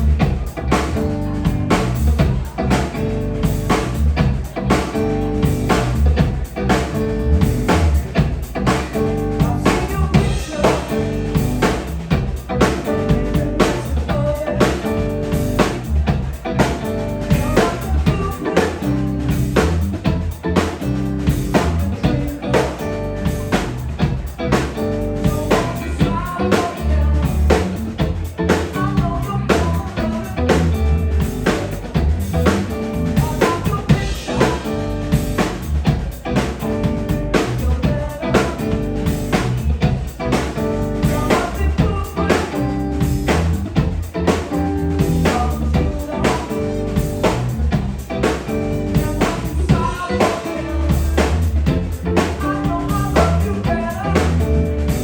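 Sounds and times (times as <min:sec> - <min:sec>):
drum kit beat: 0:00.0 - 0:55.0
electric bass: 0:00.0 - 0:55.0
electric guitar: 0:00.0 - 0:55.0.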